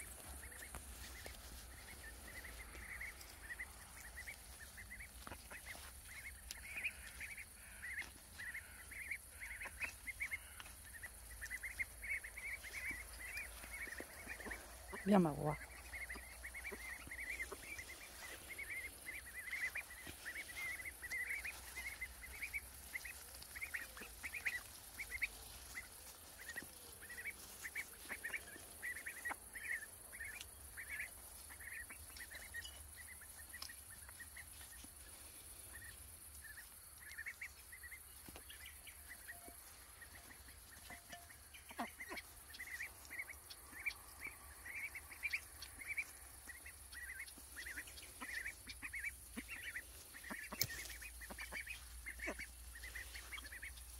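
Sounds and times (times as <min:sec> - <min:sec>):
plants rustling: 0:00.0 - 0:43.9, 0:44.9 - 0:53.9
ducklings peeping: 0:00.0 - 0:53.9.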